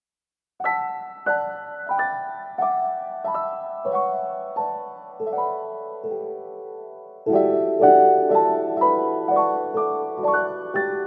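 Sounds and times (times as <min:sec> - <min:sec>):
piano chords: 0:00.6 - 0:11.0.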